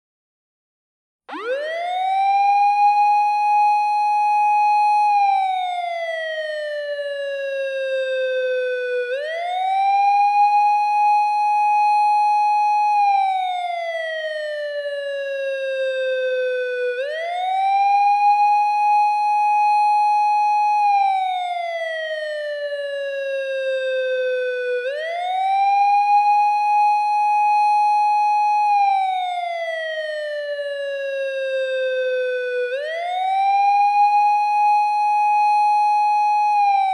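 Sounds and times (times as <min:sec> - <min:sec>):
police siren wailing: 0:01.3 - 0:36.9.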